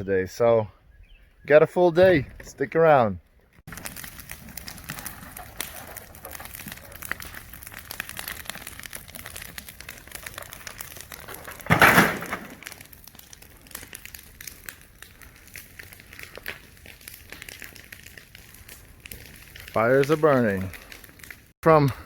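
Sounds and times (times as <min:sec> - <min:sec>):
fire crackling and popping: 0:02.1 - 0:22.0.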